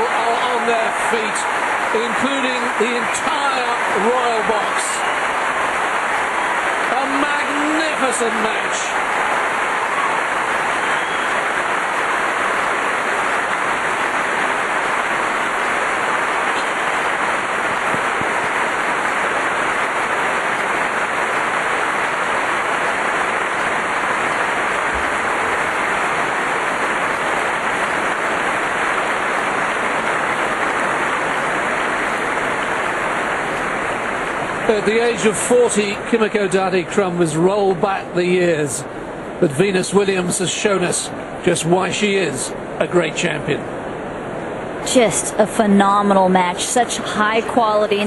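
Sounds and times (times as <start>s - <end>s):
crowd applauding: 0.0s - 38.6s.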